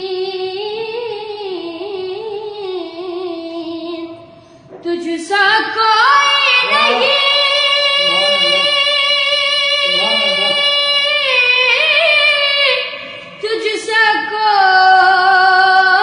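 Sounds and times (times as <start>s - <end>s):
boy singing: 0.0s - 16.0s.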